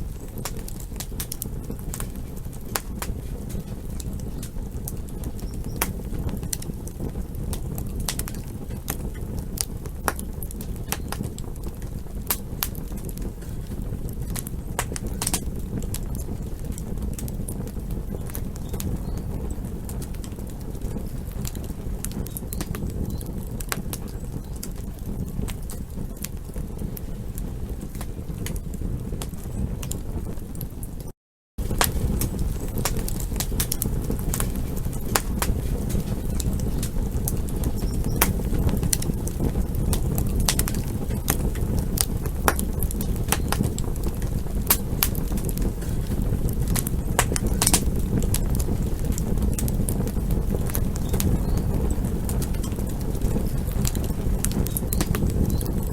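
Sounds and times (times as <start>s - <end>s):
campfire burning: 0.0s - 55.9s.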